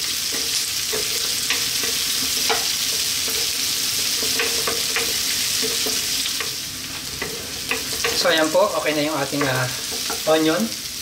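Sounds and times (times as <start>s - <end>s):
food sizzling in hot oil: 0.0s - 11.0s
spatula scraping and tapping pan: 0.2s - 10.4s.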